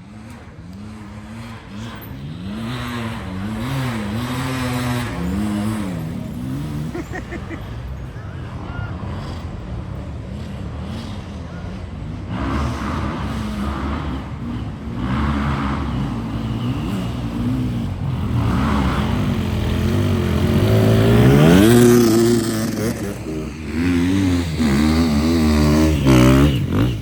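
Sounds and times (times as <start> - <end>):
motocross engines revving: 0.0 - 27.0.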